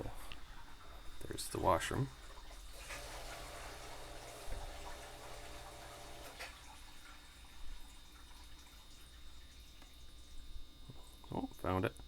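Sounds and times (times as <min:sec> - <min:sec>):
water running through plumbing: 0:00.0 - 0:12.0.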